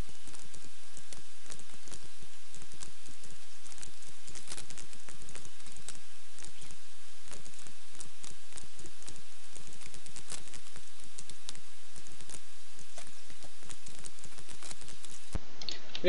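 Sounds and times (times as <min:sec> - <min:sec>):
low steady hum: 0:00.0 - 0:16.0
computer mouse and keyboard clicking: 0:00.2 - 0:16.0.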